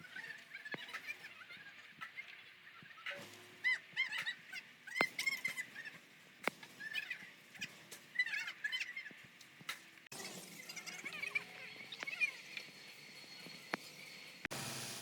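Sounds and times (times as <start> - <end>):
birds chirping: 0.0 - 14.5.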